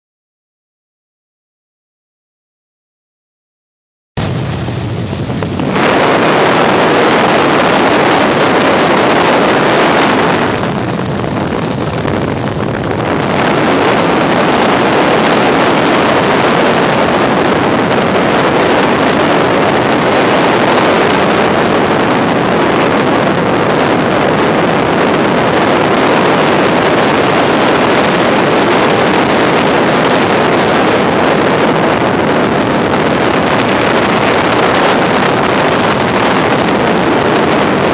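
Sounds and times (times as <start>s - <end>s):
helicopter cabin noise: 4.2s - 37.9s.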